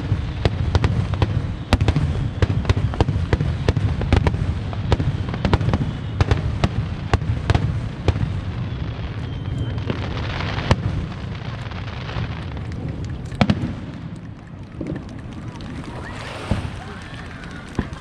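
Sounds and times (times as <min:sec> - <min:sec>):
fireworks bangs: 0:00.0 - 0:18.0
fireworks crackling hiss: 0:00.0 - 0:18.0.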